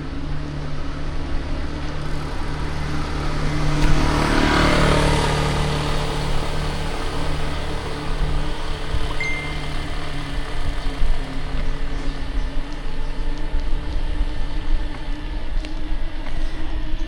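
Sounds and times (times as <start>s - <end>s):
motor vehicle passing close: 0.0s - 16.8s
city street traffic hum: 0.0s - 17.0s.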